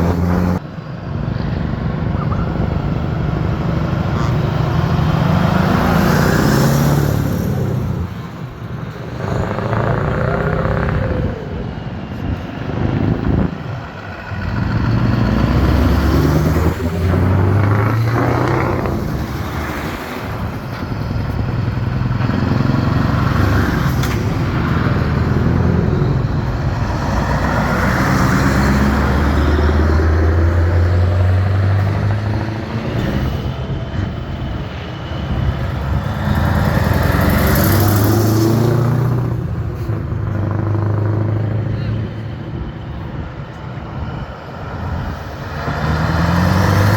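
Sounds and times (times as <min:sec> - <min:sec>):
trucks driving past: 0:00.0 - 0:46.9.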